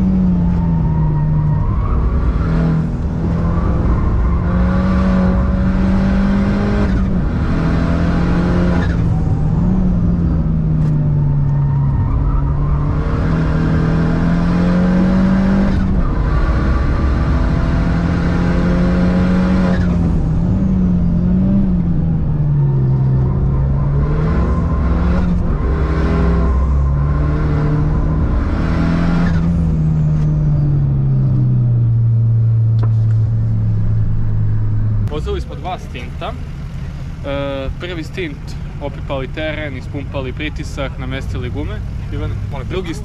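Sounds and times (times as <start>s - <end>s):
car engine revving through gears: 0.0s - 43.0s.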